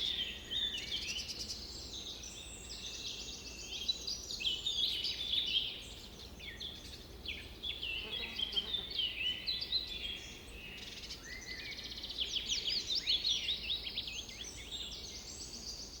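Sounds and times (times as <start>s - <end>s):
low background noise: 0.0s - 16.0s
songbirds singing and chirping: 0.0s - 16.0s.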